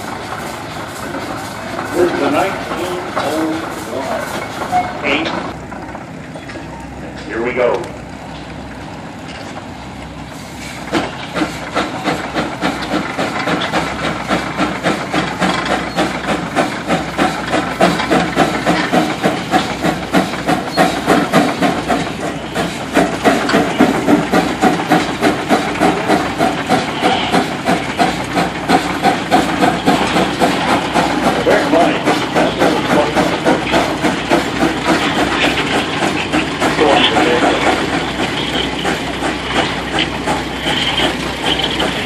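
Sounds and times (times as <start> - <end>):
steam hissing: 0.0 - 5.7, 9.7 - 42.0
steam engine exhaust chuffing: 0.0 - 42.0.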